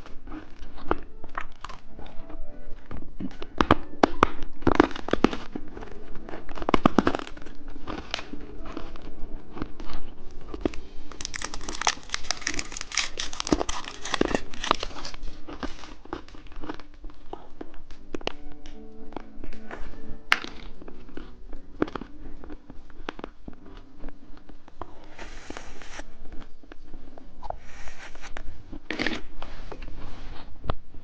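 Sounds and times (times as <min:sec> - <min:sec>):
plastic wrapper crinkling: 0:00.0 - 0:26.5.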